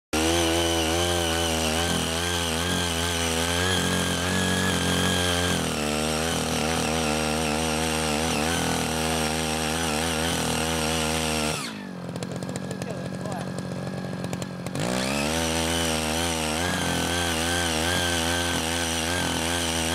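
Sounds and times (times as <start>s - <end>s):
small engine running under load: 0.2s - 19.9s
tines tilling dry soil: 0.2s - 19.9s.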